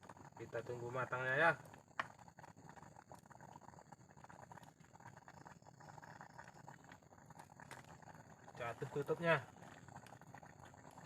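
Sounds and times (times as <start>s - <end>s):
open fire crackling: 0.0s - 11.0s
pot of rice boiling: 0.0s - 11.0s.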